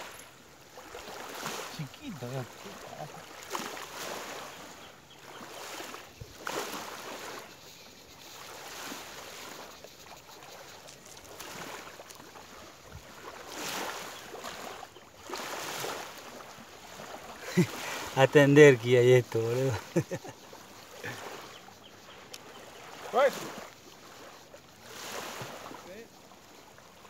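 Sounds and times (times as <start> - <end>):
small waves lapping on sand: 0.0 - 27.0
wind: 0.0 - 27.0.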